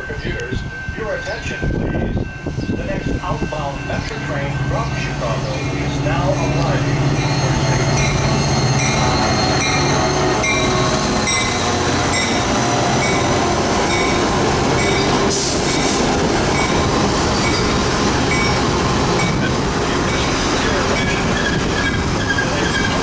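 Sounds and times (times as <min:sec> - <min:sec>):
diesel locomotive running: 0:00.0 - 0:23.0
train cars rolling on rails: 0:00.0 - 0:23.0.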